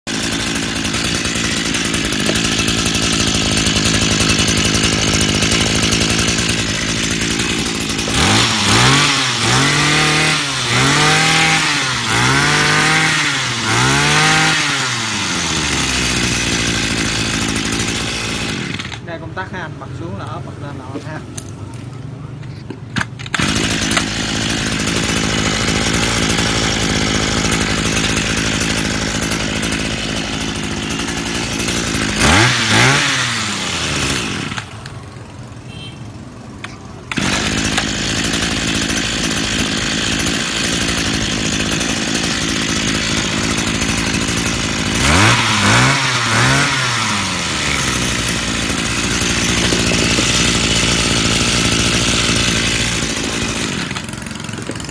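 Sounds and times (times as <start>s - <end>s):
brush cutter engine revving: 0.1s - 54.9s.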